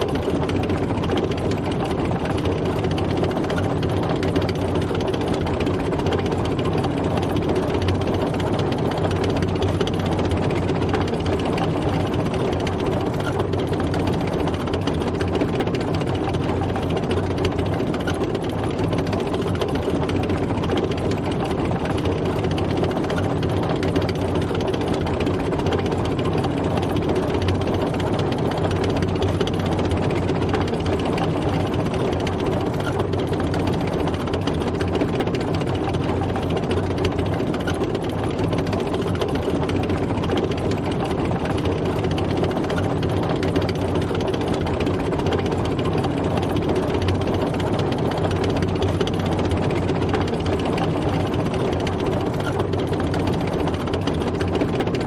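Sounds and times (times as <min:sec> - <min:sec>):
tank engine low drone: 0:00.0 - 0:55.0.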